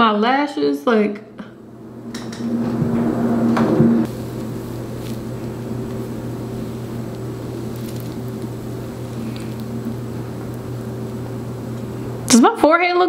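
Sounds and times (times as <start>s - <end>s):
steady low hum: 1.3s - 13.0s.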